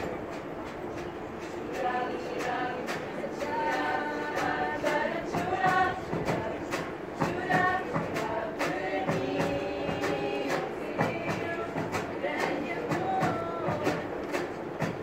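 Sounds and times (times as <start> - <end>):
drum steady beat: 0.0 - 15.0
women's choir singing: 0.9 - 15.0.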